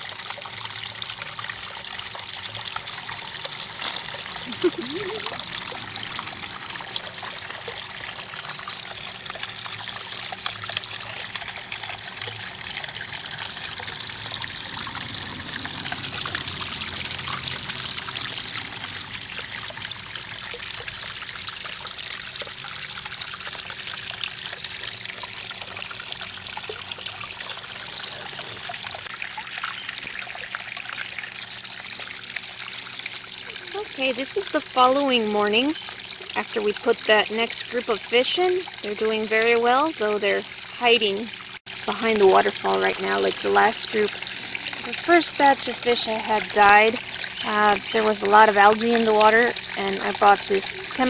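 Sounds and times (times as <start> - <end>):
small waterfall trickling into pond: 0.0 - 51.0.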